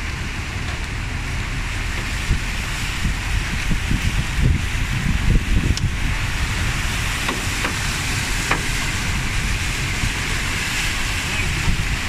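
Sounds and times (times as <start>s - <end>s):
floodwater rushing down street: 0.0s - 12.0s.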